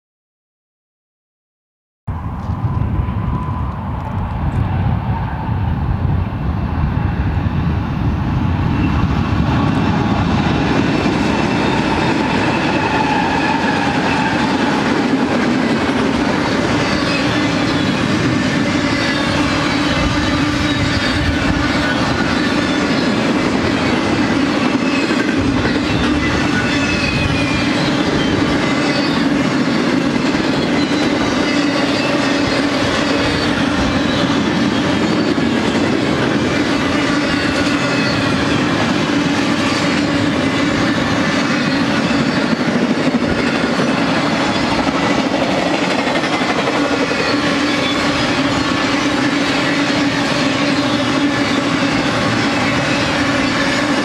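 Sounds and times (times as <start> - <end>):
diesel locomotives passing: 2.1 - 54.0
train wheels clattering on rails: 8.6 - 54.0.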